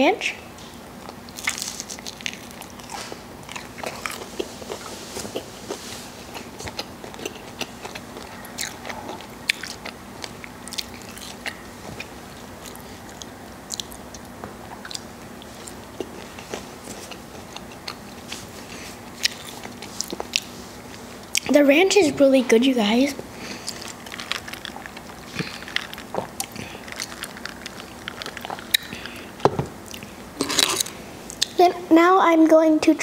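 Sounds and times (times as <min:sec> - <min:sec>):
person chewing crispy food: 0:01.0 - 0:21.5, 0:23.2 - 0:31.6.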